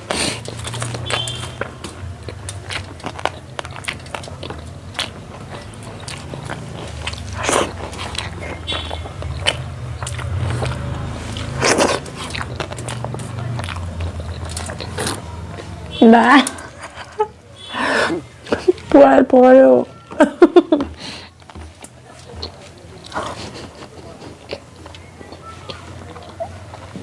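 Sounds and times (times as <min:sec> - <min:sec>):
person biting and chewing food: 0:00.0 - 0:16.7, 0:20.9 - 0:27.0.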